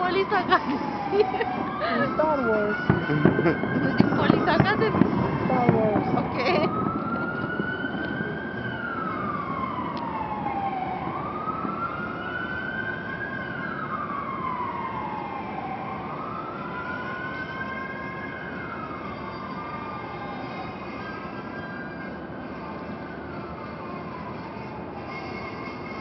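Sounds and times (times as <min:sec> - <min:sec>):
siren wailing: 0:00.0 - 0:26.0.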